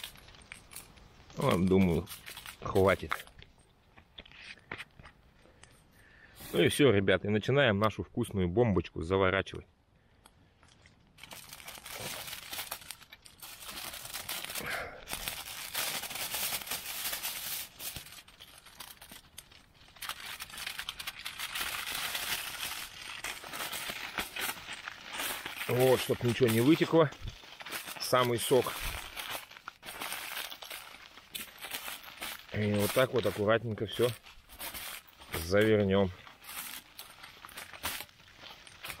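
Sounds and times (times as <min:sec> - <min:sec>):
aluminium foil crinkling: 0:00.0 - 0:03.5, 0:10.6 - 0:39.0.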